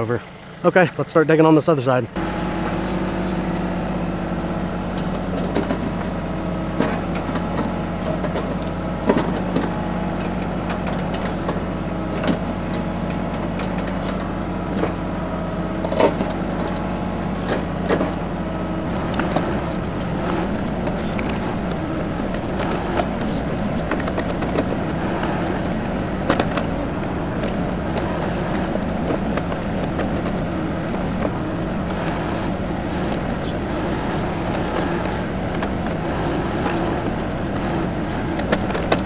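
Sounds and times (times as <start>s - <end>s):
diesel tractor engine running: 0.0s - 39.0s
backhoe bucket knocking and scraping: 4.6s - 39.0s.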